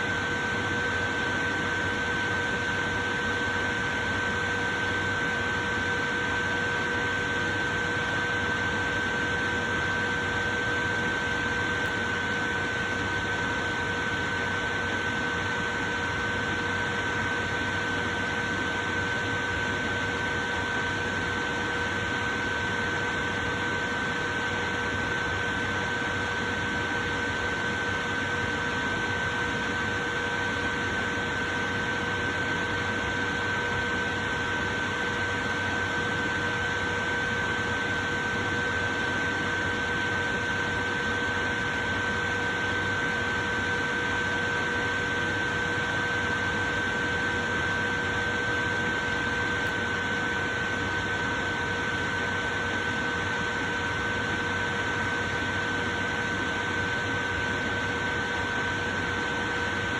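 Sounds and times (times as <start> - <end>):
electric fan whooshing and humming: 9.2 - 59.9.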